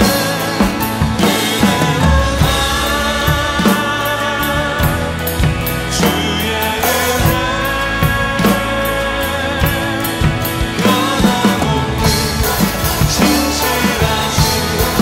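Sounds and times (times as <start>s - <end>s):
acoustic drum kit: 0.0s - 15.0s
worship song with singing: 0.0s - 15.0s.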